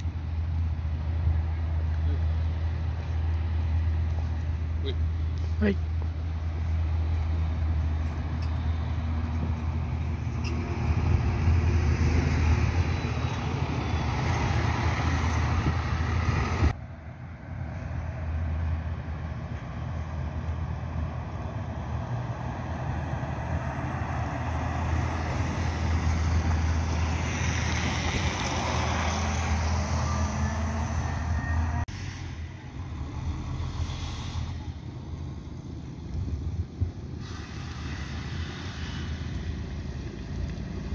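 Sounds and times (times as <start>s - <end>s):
bus engine hum: 0.0s - 40.9s
tyre and traffic noise: 0.0s - 40.9s.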